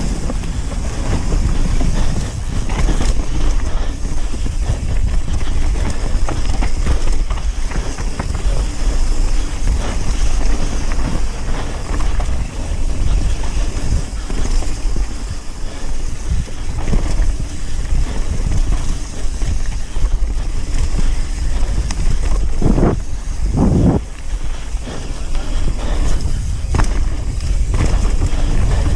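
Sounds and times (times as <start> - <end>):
bike rattling and knocking: 0.0 - 28.9
bike tyres rolling over dirt: 0.0 - 28.9
wind noise on microphone: 0.0 - 28.9.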